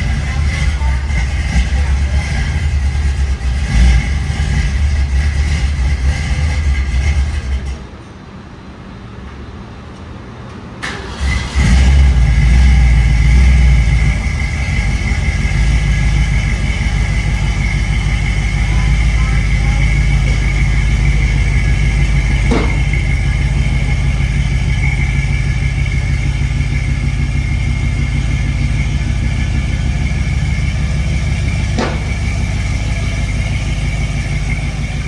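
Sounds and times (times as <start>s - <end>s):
car engine running loudly: 0.0s - 7.8s, 11.1s - 35.0s.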